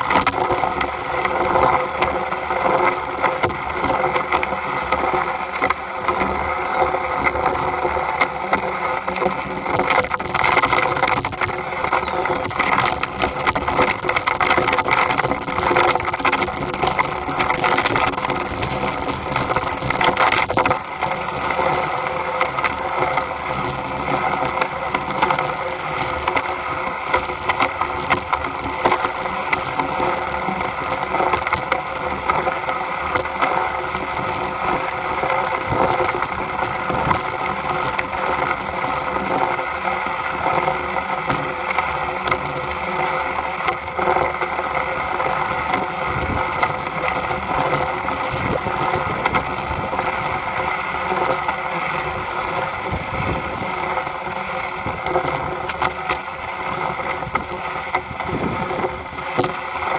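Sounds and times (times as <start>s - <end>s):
steady drone: 0.0s - 59.9s
wood rubbing and crackling: 0.0s - 59.9s.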